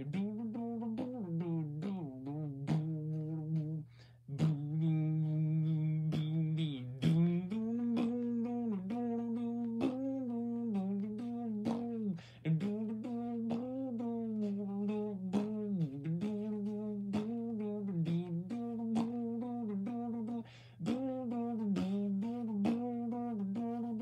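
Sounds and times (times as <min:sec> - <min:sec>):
person humming a tune: 0:00.0 - 0:24.0
steady low hum: 0:00.0 - 0:24.0.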